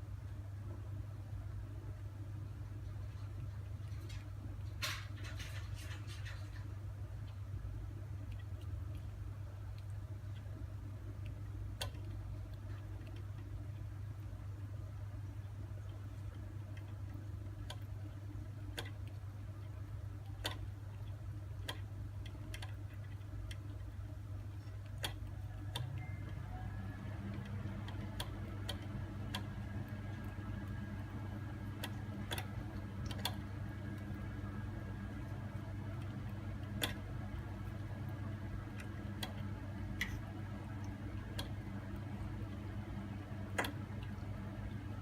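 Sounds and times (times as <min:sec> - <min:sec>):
steady low hum: 0:00.0 - 0:45.0
kitten eating clicks: 0:02.2 - 0:45.0.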